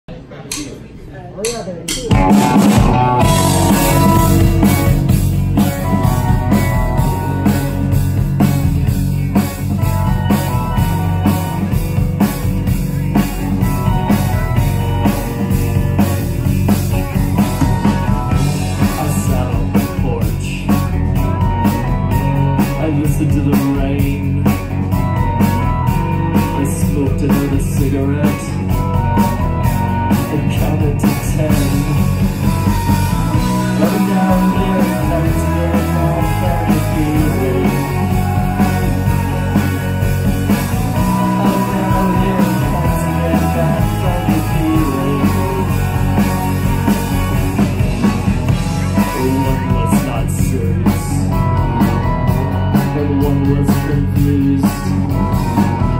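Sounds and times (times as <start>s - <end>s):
drum kit beat: 1.4s - 55.9s
bass guitar: 1.5s - 55.9s
electric guitars: 2.0s - 55.9s.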